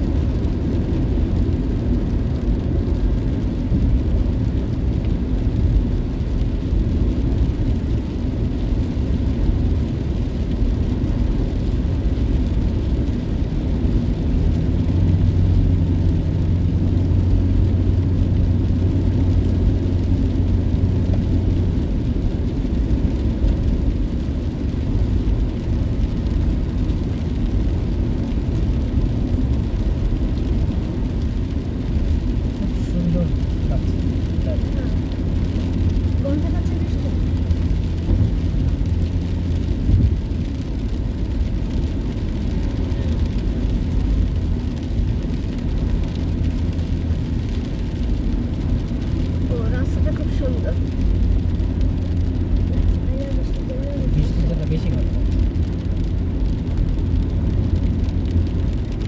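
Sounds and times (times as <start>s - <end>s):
car road and engine drone: 0.0s - 59.0s.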